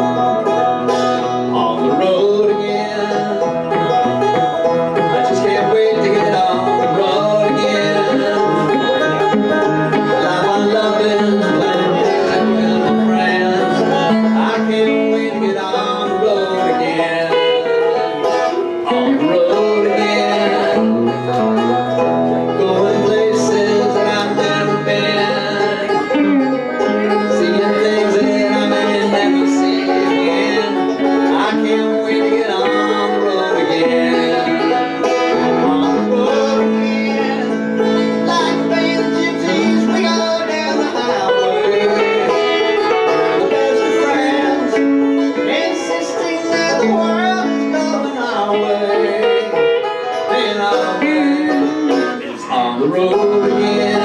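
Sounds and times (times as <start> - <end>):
banjo playing: 0.0 - 54.0
electric guitar playing: 0.0 - 54.0.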